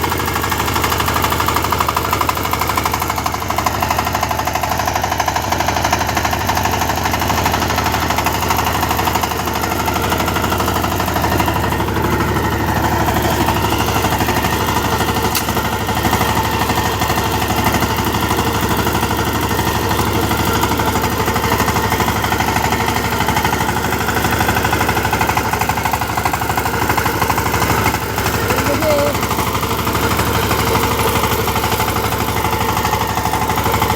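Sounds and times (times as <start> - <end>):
diesel engine knocking steadily: 0.0 - 33.9.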